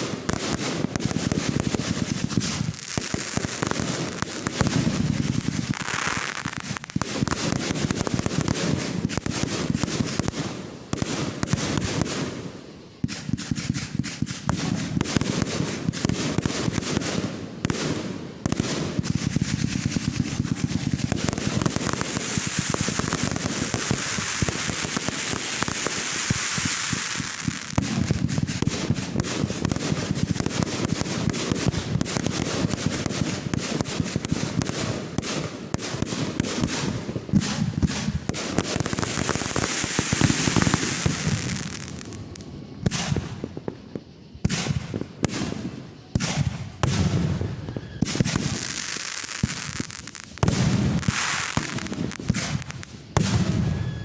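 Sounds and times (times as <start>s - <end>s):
fireworks popping and banging: 0.0s - 54.0s
hissing crackle: 0.0s - 54.0s.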